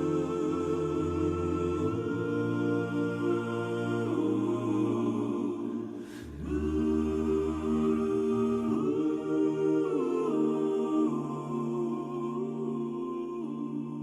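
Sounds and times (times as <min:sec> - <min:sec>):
choir-like held chords: 0:00.0 - 0:14.0.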